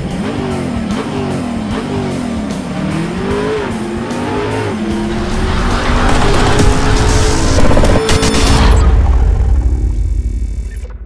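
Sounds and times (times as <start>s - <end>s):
background music: 0.0s - 10.6s
engine revving: 0.0s - 10.7s.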